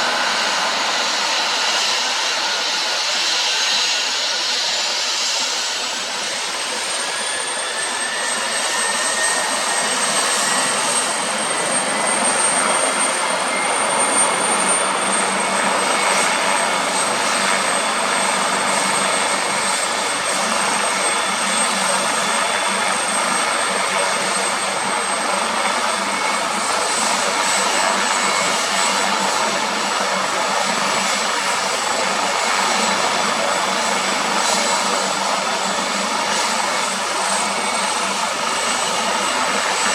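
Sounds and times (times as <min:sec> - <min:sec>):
helicopter turbine rushing: 0:00.0 - 0:39.9.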